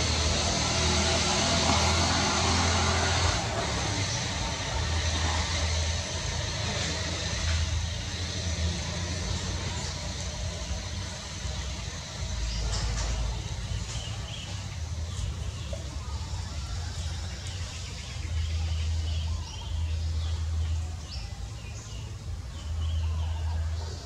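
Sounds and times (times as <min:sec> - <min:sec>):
low uneven rumble: 0:00.0 - 0:24.0.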